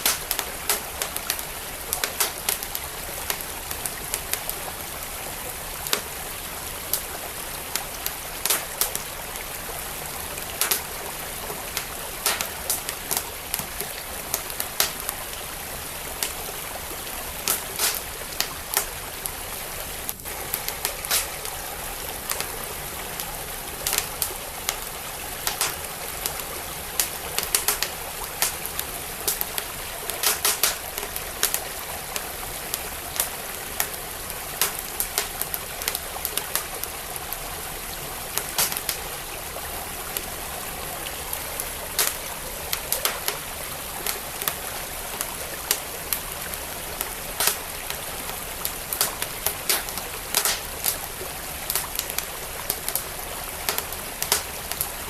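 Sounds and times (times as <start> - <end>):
flowing stream: 0.0 - 55.0
wood fire crackling: 0.0 - 55.0.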